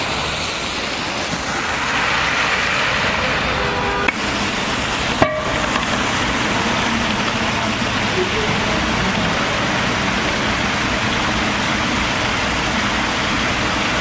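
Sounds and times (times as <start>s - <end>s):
tyres hissing on wet street: 0.0s - 14.0s.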